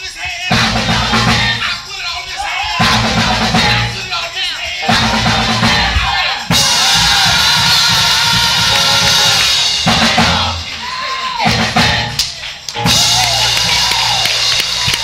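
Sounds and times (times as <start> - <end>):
live church band music: 0.0 - 15.0
bass drum and snare: 0.1 - 1.8, 2.7 - 4.1, 4.8 - 10.8, 11.4 - 15.0.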